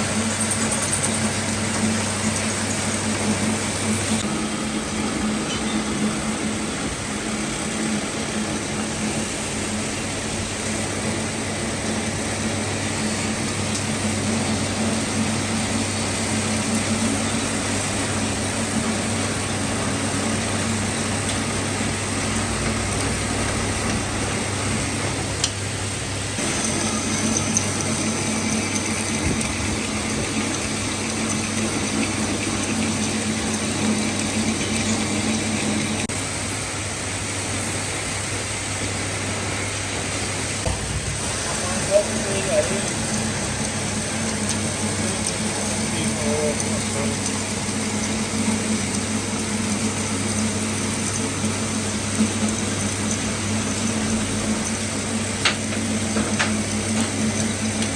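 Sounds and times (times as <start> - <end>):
metal lathe running: 0.0 - 57.9.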